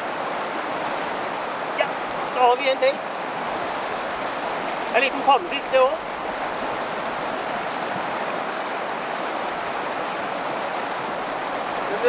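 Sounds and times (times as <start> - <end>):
river rapids rushing over rocks: 0.0 - 12.0.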